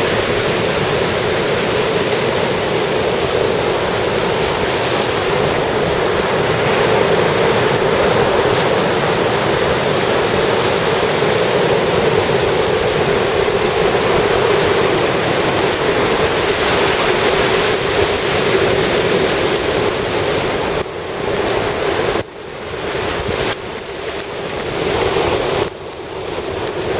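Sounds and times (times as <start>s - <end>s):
ocean surf breaking on beach: 0.0s - 26.9s.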